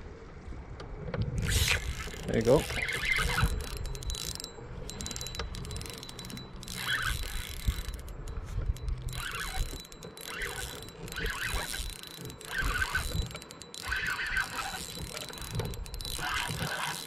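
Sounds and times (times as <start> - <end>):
fishing reel clicking and whirring: 1.4 - 17.0.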